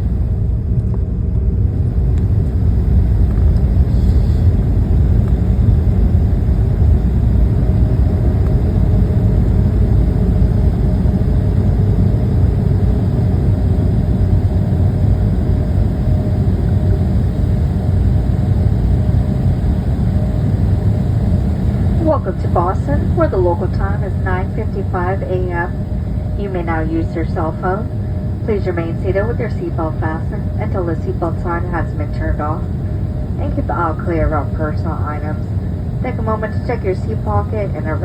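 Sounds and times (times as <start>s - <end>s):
faint steady whine: 0.0s - 38.0s
jet engines rumbling: 0.0s - 38.0s.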